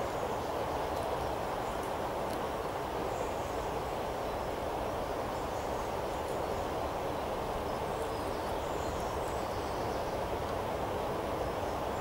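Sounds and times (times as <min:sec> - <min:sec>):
steady outdoor rushing noise: 0:00.0 - 0:12.0.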